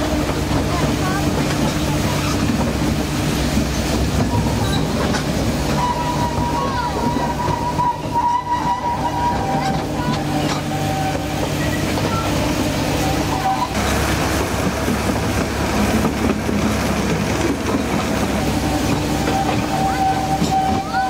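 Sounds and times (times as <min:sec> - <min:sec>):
diesel locomotive engine drone: 0:00.0 - 0:21.0
train wheel rumble: 0:00.0 - 0:21.0.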